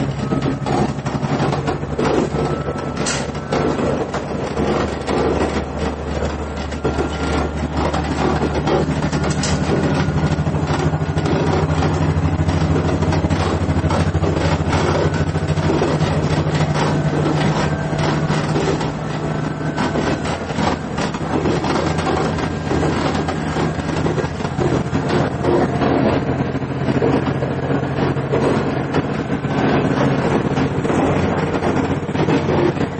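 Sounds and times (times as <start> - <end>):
diesel engine droning: 0.0 - 32.9
wheels clattering on rail: 0.0 - 32.9.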